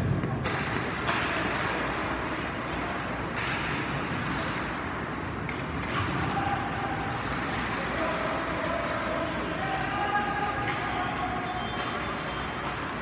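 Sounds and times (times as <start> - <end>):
arena noise: 0.0 - 13.0.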